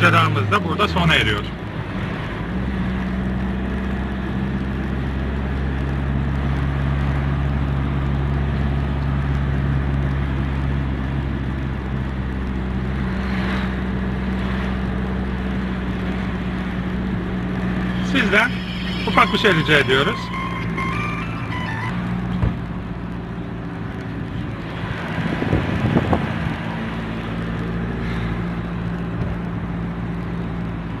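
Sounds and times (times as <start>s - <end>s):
car engine and road noise: 0.0s - 31.0s.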